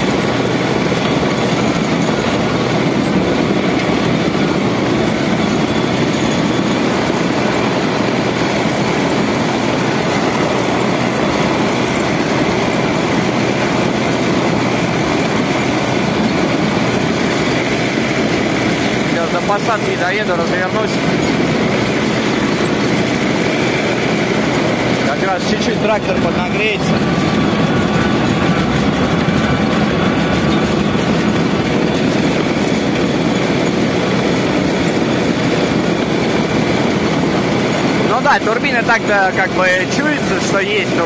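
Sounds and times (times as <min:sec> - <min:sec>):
diesel tractor engine running: 0:00.0 - 0:41.0
steel tracks clattering: 0:00.0 - 0:41.0.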